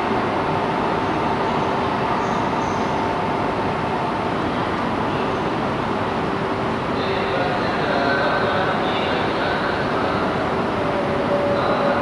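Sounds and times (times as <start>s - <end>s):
train hum and whir: 0.0s - 12.0s.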